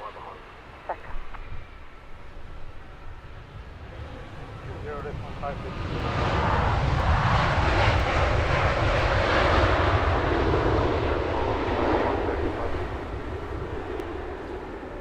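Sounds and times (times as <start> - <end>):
jet airliner passing by: 0.0 - 15.0.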